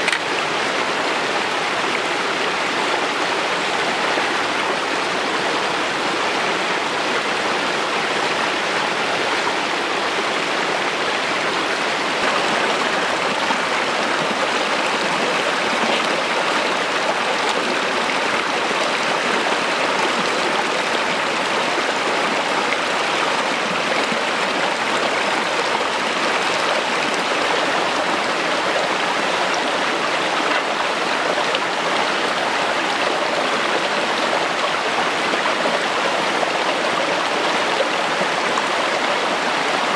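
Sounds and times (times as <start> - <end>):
stream splashing over stones: 0.0 - 5.2, 8.6 - 39.9.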